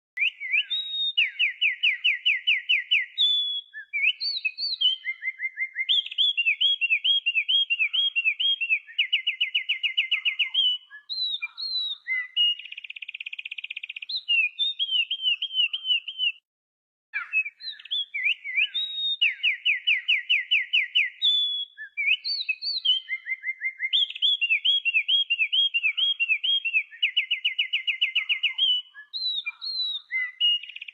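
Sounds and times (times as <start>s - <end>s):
songbird singing trills: 0.2s - 16.4s, 17.2s - 30.9s.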